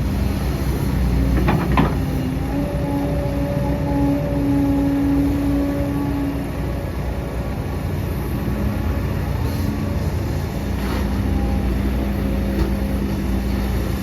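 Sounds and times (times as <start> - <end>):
diesel machinery engine hum: 0.0 - 14.0.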